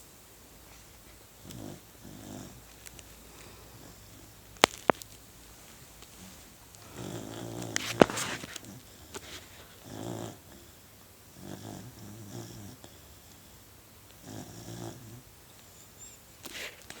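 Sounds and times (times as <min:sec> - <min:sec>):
puppy snoring: 0:01.4 - 0:04.6, 0:06.1 - 0:17.0.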